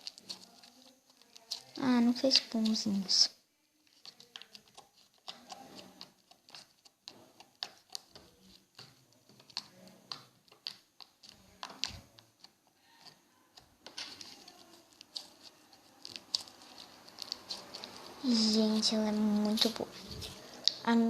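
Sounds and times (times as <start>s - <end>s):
slime squelching in hands: 0.0s - 21.0s.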